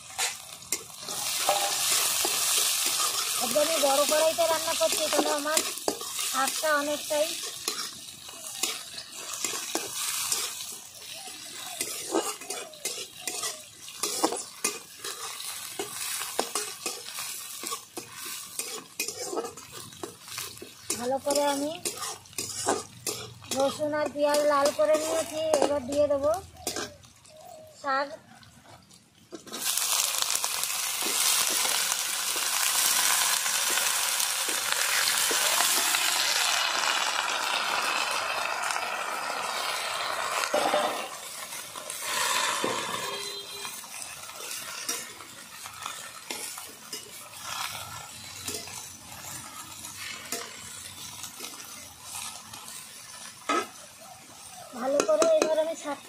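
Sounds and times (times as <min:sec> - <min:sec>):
metal spatula scraping a pan: 0:00.0 - 0:27.6, 0:38.5 - 0:56.0
leaves sizzling in hot oil: 0:00.0 - 0:56.0.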